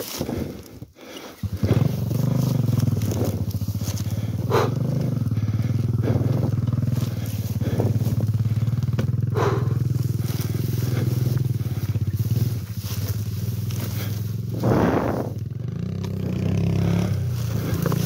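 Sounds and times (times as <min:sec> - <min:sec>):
motorcycle engine idling: 0:00.1 - 0:18.0.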